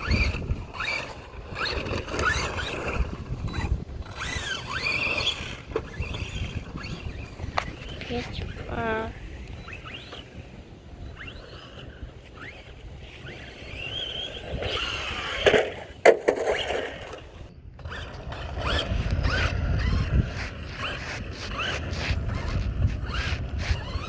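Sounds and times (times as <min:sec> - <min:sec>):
electric motor whining: 0:00.0 - 0:16.0, 0:16.6 - 0:24.0
tyres rumbling on dirt: 0:00.0 - 0:24.0.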